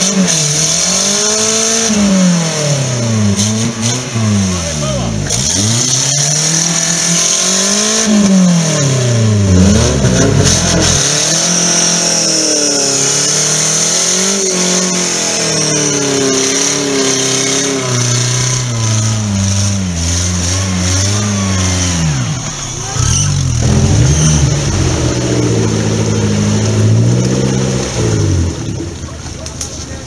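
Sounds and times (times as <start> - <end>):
engine revving under load: 0.0 - 29.7.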